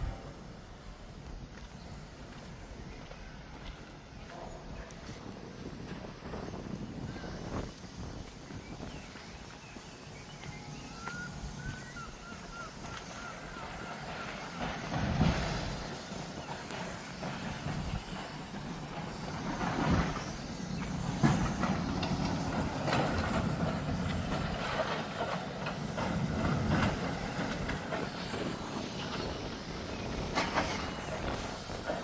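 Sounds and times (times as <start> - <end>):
demolition machinery running: 0.0 - 32.0.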